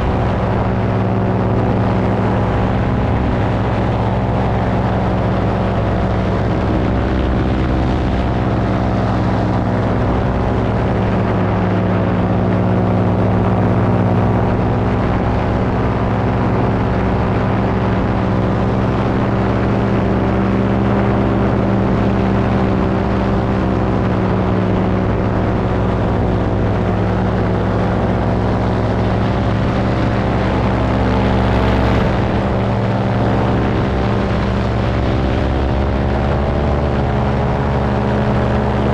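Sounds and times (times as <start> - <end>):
paramotor engine droning: 0.0 - 38.9.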